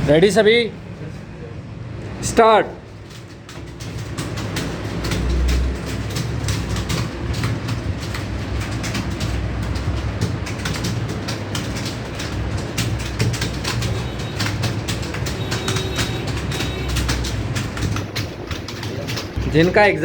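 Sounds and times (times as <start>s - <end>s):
keyboards typing clatter: 2.0s - 20.0s.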